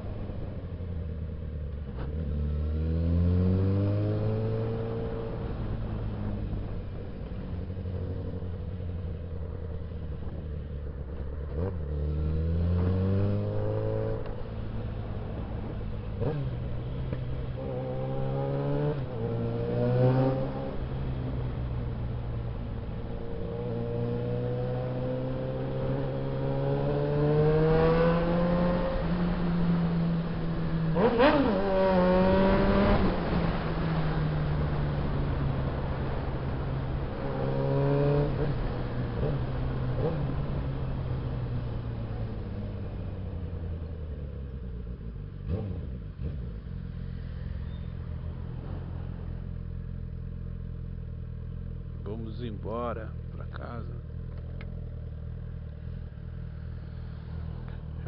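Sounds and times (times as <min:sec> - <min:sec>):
motorcycle engine accelerating: 0:00.0 - 0:52.1, 0:53.1 - 0:58.0.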